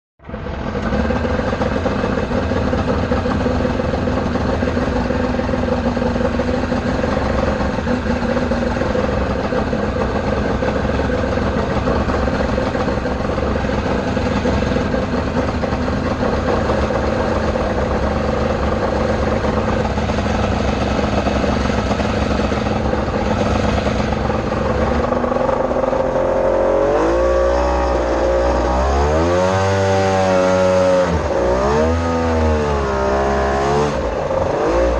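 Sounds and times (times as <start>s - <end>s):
jet boat engine revving: 0.2s - 34.9s.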